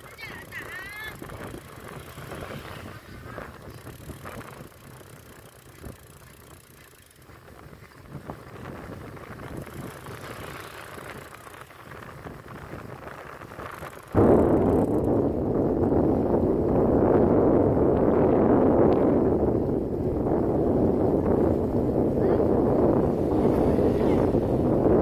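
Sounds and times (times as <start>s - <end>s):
vehicle road and engine rumble: 0.0s - 25.0s
wind buffeting microphone: 0.0s - 25.0s.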